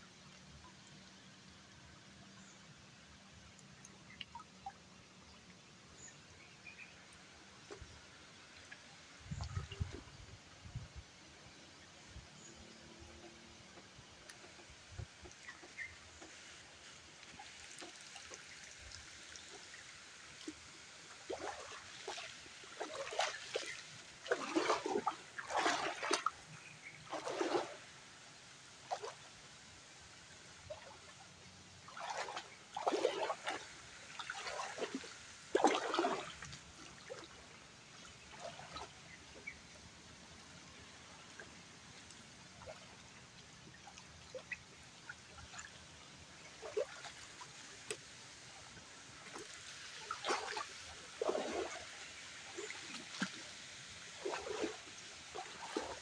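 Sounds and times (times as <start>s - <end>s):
water splashing in a stream: 0.0s - 56.0s.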